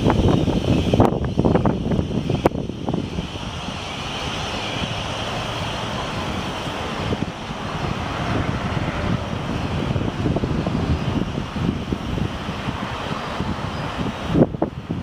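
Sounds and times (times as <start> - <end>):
steady rushing noise: 0.0 - 15.0
wind buffeting microphone: 0.0 - 15.0.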